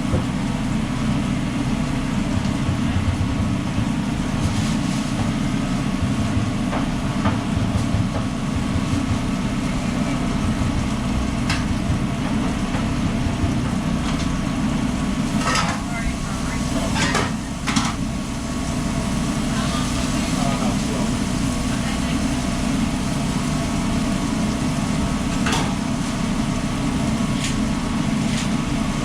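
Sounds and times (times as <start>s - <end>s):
low mechanical rumble: 0.0s - 29.0s.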